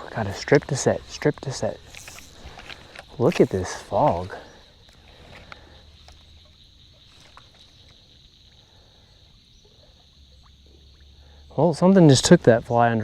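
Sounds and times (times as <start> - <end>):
faint ticks: 0.0 - 12.2
insects droning: 0.0 - 13.0.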